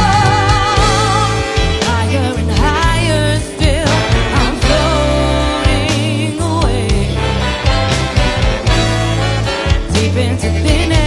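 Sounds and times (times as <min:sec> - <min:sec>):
woman singing with vibrato: 0:00.0 - 0:08.3, 0:09.7 - 0:11.0
live band playing: 0:00.0 - 0:11.0
sustained bass line: 0:00.0 - 0:11.0.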